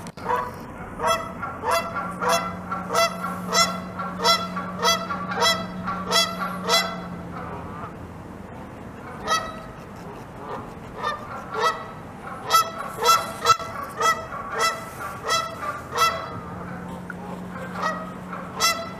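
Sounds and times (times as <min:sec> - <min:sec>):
geese honking: 0:00.2 - 0:08.0, 0:09.0 - 0:18.9.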